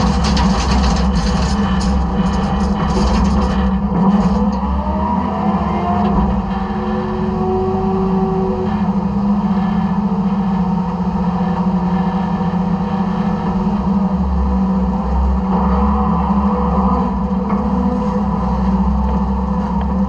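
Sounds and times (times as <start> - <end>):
garbage truck engine and hydraulics: 0.0 - 20.0.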